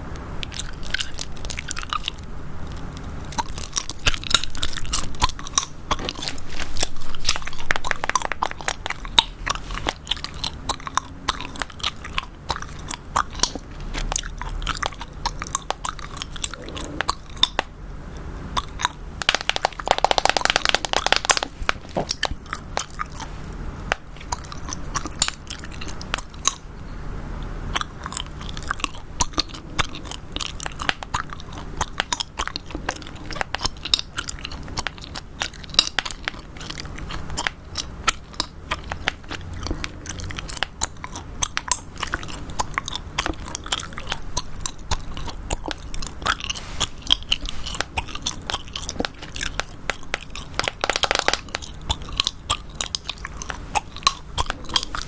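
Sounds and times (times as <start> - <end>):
gum chewing clicks and smacks: 0.2 - 55.0.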